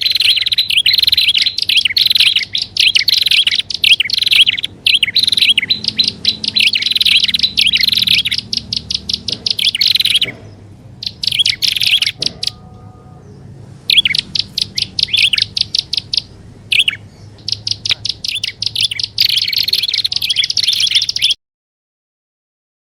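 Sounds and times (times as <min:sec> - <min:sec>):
bird high chipping notes: 0:00.0 - 0:21.4.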